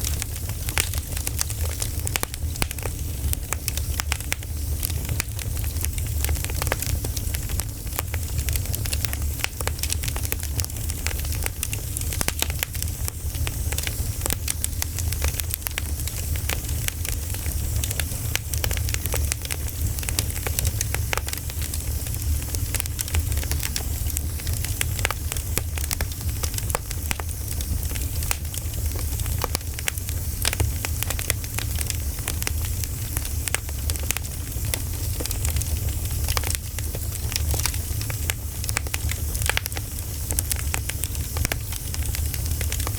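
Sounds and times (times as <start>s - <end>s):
bonfire crackling and popping: 0.0s - 42.9s
low rumble of flames: 0.0s - 42.9s.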